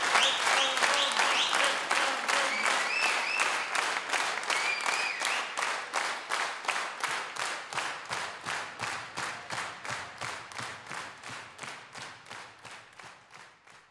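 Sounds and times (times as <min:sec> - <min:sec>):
rhythmic hand clapping: 0:00.0 - 0:13.9.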